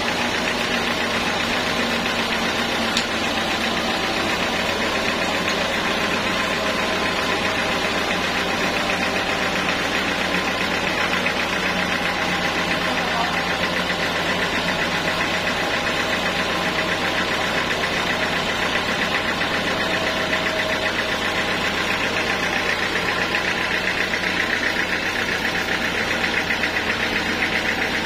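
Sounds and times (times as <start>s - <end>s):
band saw cutting wood: 0.0s - 28.0s.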